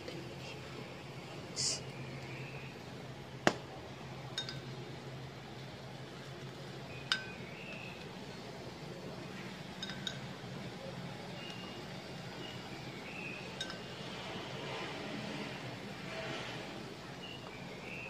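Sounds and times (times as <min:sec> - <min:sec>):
low hum and hiss: 0:00.0 - 0:18.0.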